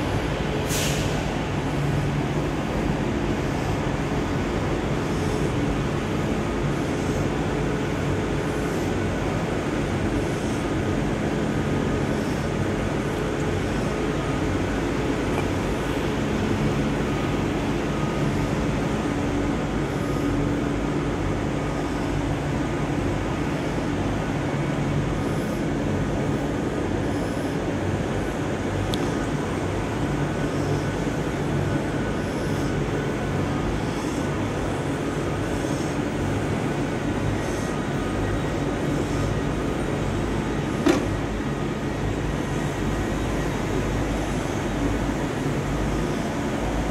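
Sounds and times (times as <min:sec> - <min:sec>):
stationary train humming: 0:00.0 - 0:46.9.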